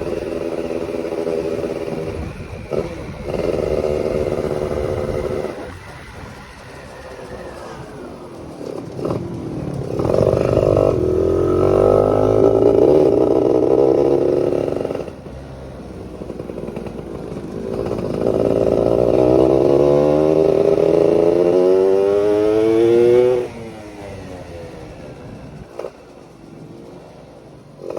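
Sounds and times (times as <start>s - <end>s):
two-stroke engine revving: 0.0s - 27.9s.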